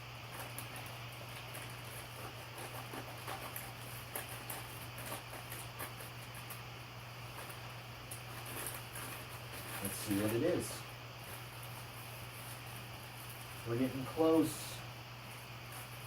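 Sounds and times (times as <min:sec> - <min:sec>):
steady low hum: 0:00.0 - 0:16.0
plastic packaging crinkling: 0:00.2 - 0:14.5.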